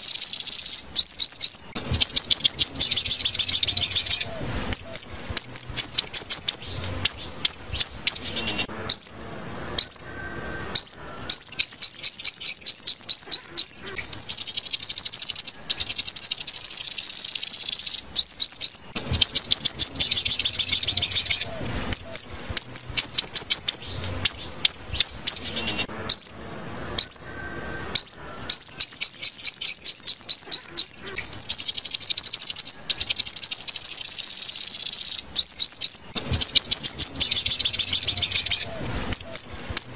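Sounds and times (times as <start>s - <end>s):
sunbird song: 0.0s - 39.9s.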